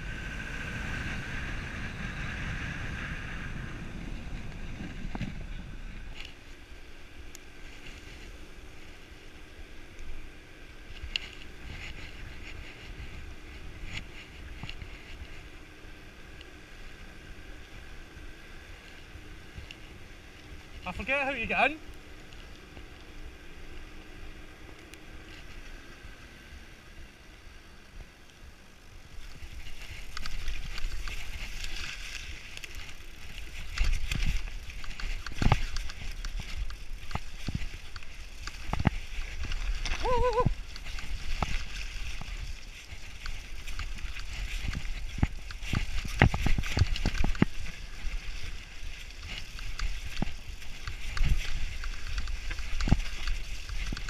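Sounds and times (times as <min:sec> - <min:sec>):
bike tyres rolling on dirt: 0:00.0 - 0:54.0.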